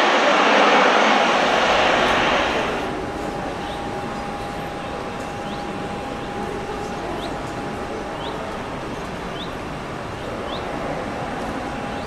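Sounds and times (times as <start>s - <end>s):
distant engines rumbling: 0.0s - 12.0s.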